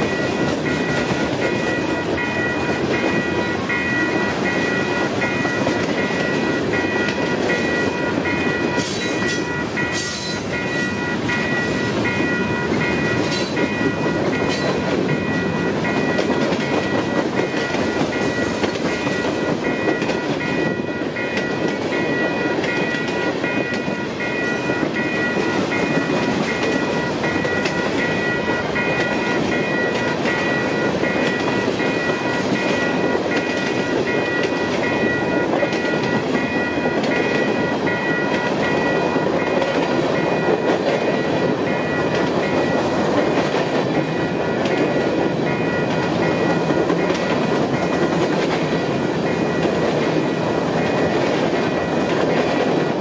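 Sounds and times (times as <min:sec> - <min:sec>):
crossing warning bell ringing: 0:00.0 - 0:53.0
freight cars rumbling and clattering: 0:00.0 - 0:53.0.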